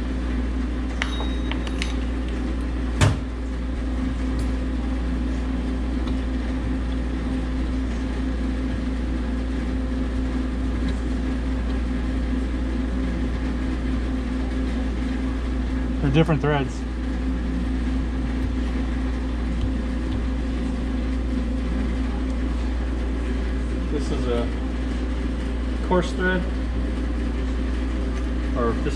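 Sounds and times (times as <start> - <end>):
machinery humming: 0.0 - 28.9.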